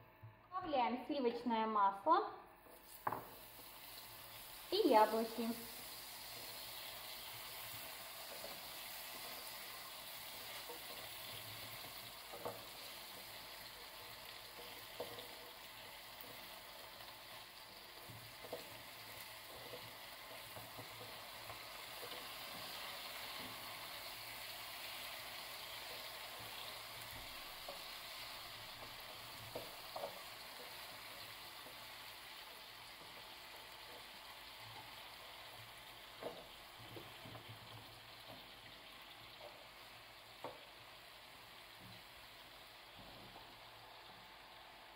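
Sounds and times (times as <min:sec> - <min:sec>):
apple slices sizzling in pan: 0:02.7 - 0:44.9.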